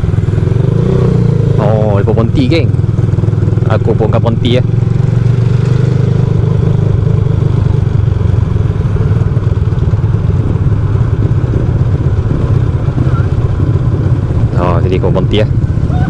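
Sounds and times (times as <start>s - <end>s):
moped engine running at low revs: 0.0s - 16.0s.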